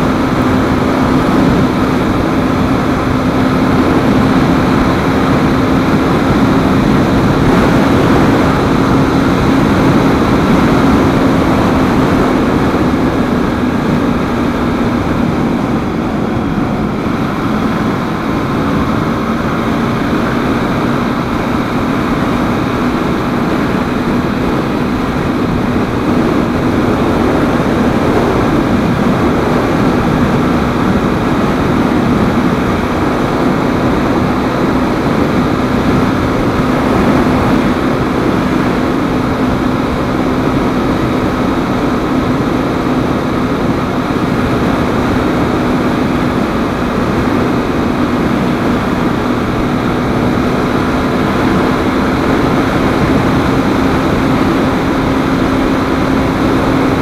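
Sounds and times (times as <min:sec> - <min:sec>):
motorcycle engine cruising: 0:00.0 - 0:57.0
wind rush on microphone: 0:00.0 - 0:57.0.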